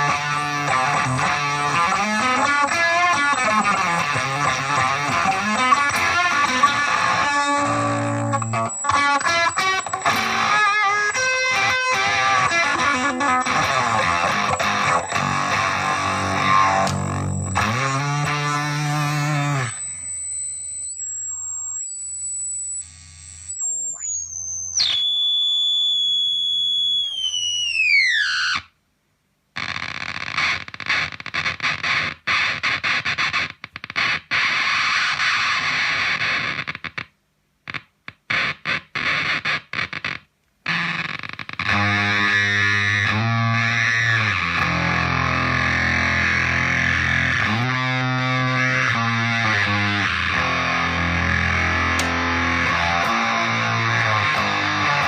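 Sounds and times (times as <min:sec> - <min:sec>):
high-pitched pedal squeal: 0:00.0 - 0:28.7, 0:38.4 - 0:55.0
sliding fuzz guitar notes: 0:00.0 - 0:28.7, 0:37.7 - 0:55.0
sputtering fuzz guitar: 0:00.0 - 0:28.7, 0:29.6 - 0:37.1, 0:37.7 - 0:55.0.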